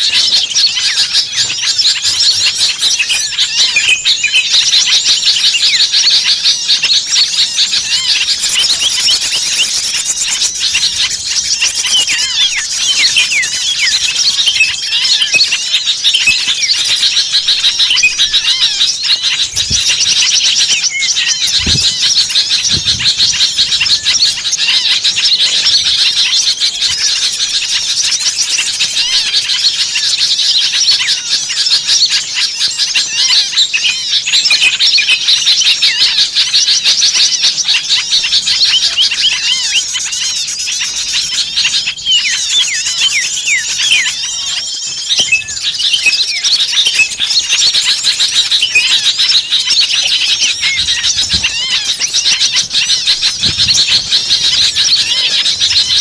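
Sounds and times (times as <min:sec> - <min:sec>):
many small birds chirping: 0:00.0 - 0:56.0.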